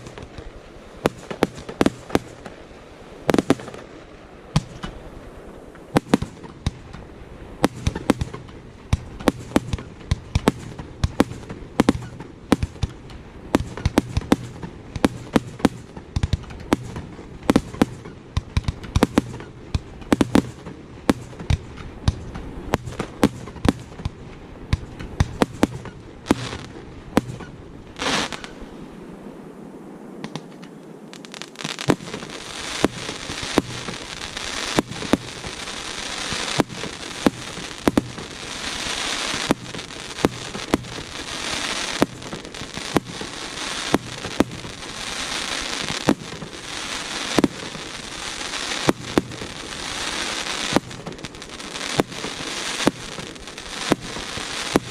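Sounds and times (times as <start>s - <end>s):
fireworks bangs: 0.0s - 29.2s, 29.8s - 54.9s
fireworks crackling hiss: 0.0s - 54.9s.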